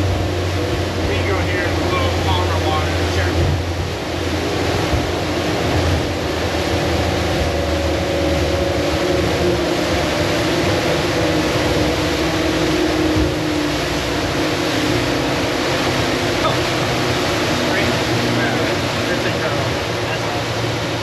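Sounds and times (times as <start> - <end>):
outboard engines running: 0.0 - 21.0
wind and water rushing: 0.0 - 21.0.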